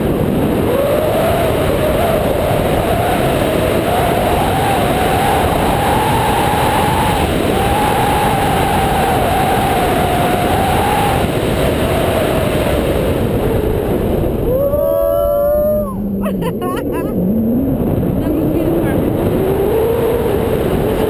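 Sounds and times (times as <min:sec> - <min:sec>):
wind roaring over microphone: 0:00.0 - 0:21.0.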